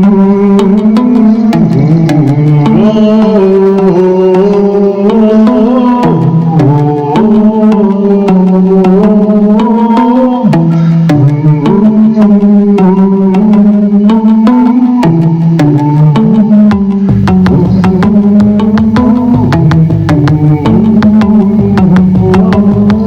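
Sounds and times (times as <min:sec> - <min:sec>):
hand drum strokes: 0:00.0 - 0:23.0
sliding melodic line: 0:00.0 - 0:23.0.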